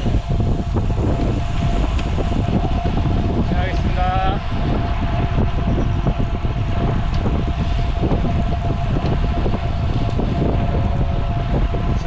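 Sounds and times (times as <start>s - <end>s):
faint steady whine: 0.0s - 12.0s
wind rushing over microphone: 0.0s - 12.0s.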